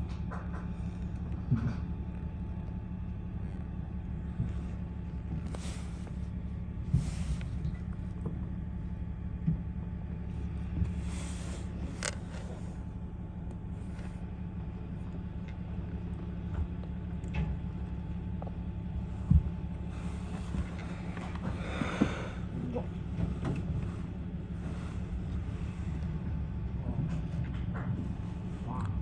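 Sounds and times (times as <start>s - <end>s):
garbage truck engine rumbling: 0.0s - 29.0s.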